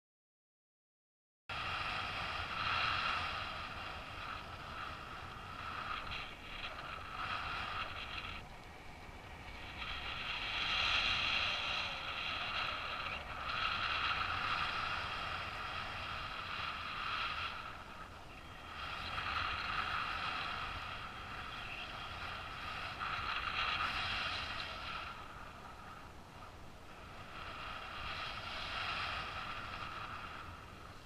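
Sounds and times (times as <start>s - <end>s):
wind rushing over microphone: 1.5s - 31.0s.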